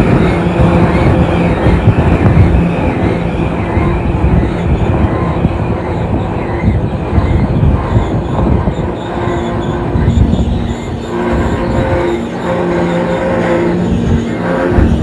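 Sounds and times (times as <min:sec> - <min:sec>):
train wheels rumbling on rail: 0:00.0 - 0:15.0
wheels squealing: 0:00.0 - 0:15.0.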